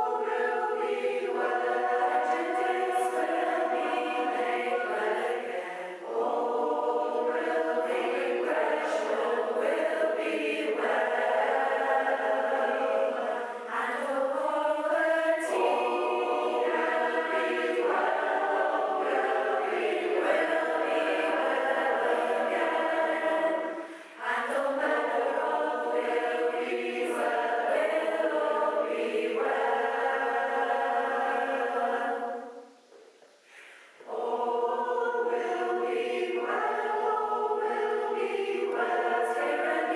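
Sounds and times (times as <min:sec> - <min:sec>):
choir singing: 0:00.0 - 0:32.7, 0:33.5 - 0:39.9.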